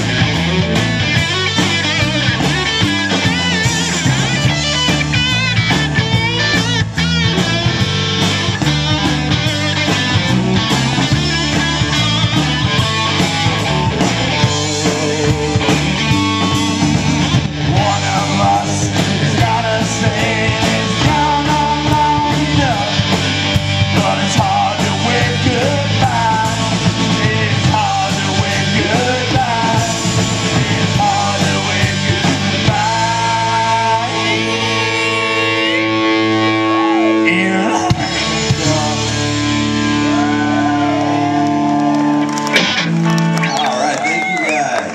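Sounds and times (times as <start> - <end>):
electric guitar bending notes: 0.0 - 44.9
rock band playing: 0.0 - 44.9.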